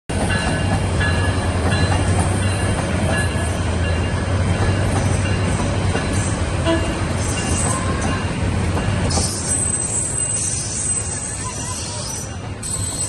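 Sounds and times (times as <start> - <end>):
train wheels rumbling on track: 0.1 - 13.0.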